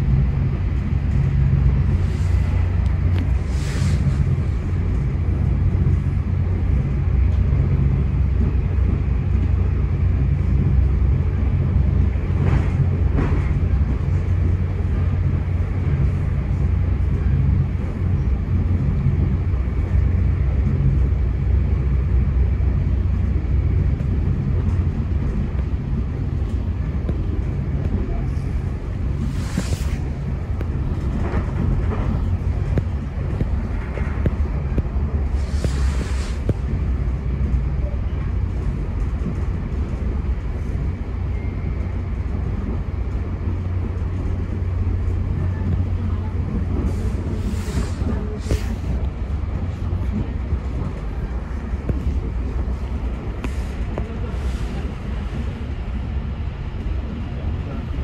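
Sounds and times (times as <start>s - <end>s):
train coach rumbling on rails: 0.0s - 58.0s.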